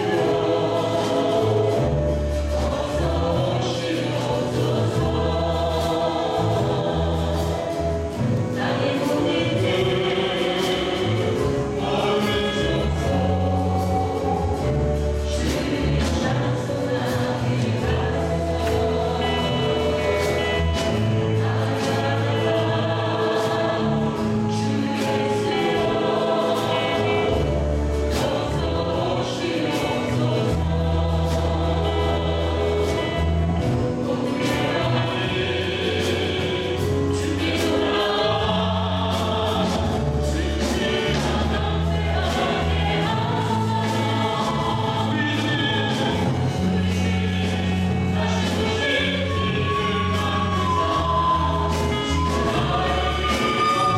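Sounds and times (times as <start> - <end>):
acoustic guitar: 0.0 - 53.9
group singing worship song: 0.0 - 53.9.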